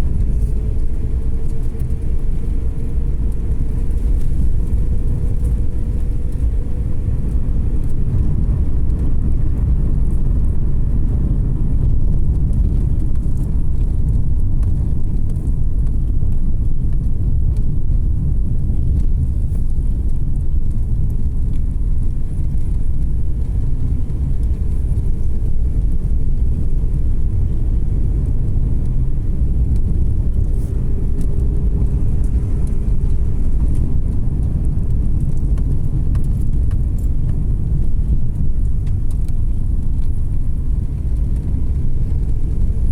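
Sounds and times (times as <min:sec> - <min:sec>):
car engine rumble: 0:00.0 - 0:42.9.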